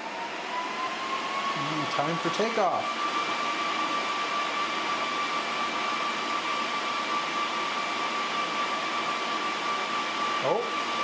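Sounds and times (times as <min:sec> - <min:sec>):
server cooling fans whining: 0:00.0 - 0:11.0.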